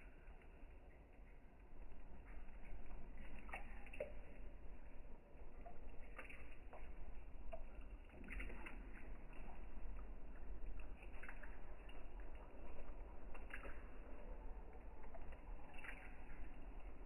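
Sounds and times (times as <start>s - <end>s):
steady low hum: 0.0s - 17.0s
water sloshing and splashing: 0.0s - 17.0s.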